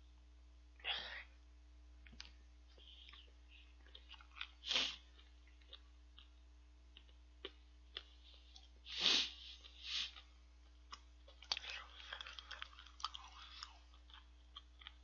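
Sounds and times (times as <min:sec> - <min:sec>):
man chewing: 0:02.0 - 0:15.0.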